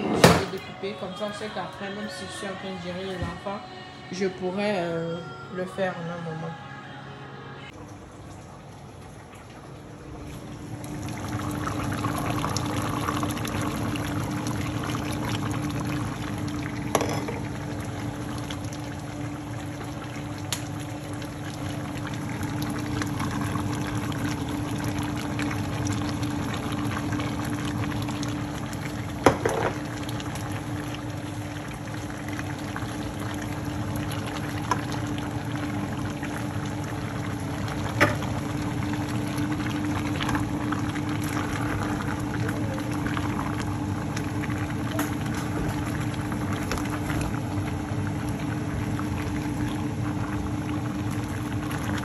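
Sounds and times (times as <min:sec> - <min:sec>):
stew bubbling in a pot: 0:07.7 - 0:52.0.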